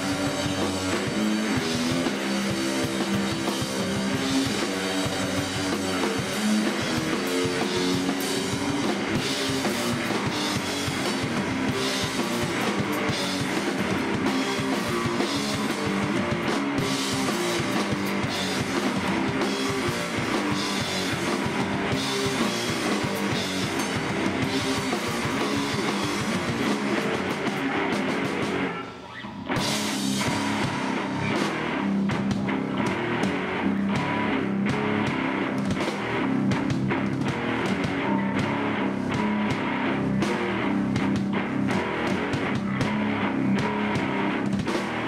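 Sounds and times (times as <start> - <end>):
live rock band: 0.0 - 45.0.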